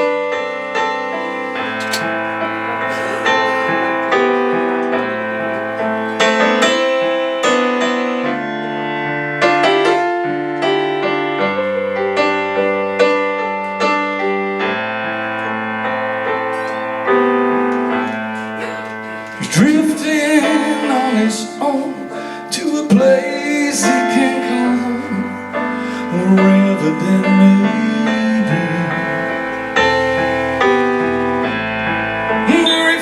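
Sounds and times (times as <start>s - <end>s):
slow piano chords: 0.0s - 33.0s.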